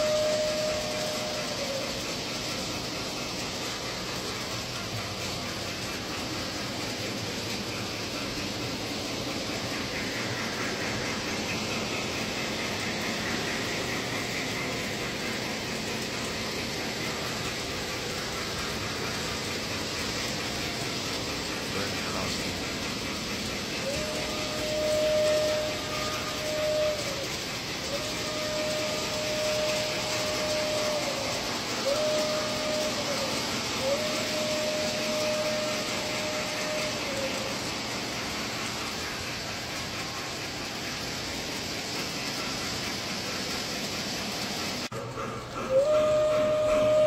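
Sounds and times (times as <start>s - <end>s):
model train rolling: 0.0s - 47.0s.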